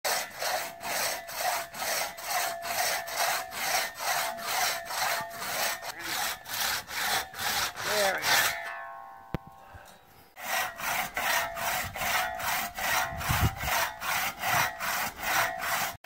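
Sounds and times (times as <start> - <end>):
crosscut saw rasping through log: 0.0 - 8.7, 10.3 - 16.0.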